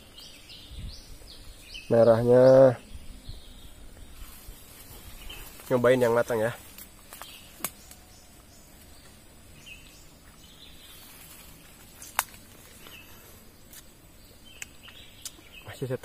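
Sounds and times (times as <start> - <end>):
faint insect hum: 0.0 - 16.0.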